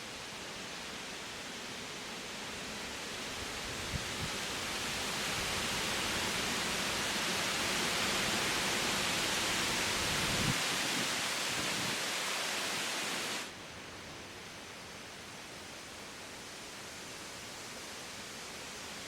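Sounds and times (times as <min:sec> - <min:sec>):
wind rushing through trees: 0:00.0 - 0:19.0.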